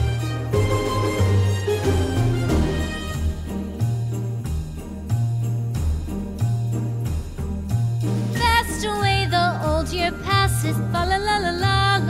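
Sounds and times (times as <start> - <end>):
instrumental music with jingle bells: 0.0 - 12.0.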